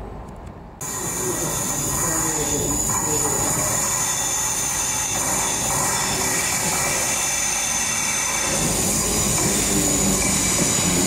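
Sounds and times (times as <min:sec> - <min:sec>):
high steady whine: 0:00.8 - 0:11.0
train hissing rumble: 0:00.8 - 0:11.0.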